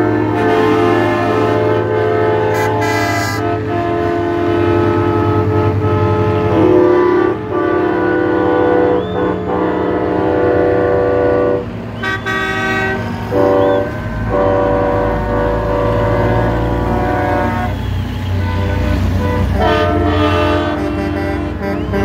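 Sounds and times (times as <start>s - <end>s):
low diesel engine rumble: 0.0s - 22.0s
truck air horns blasting: 0.0s - 22.0s.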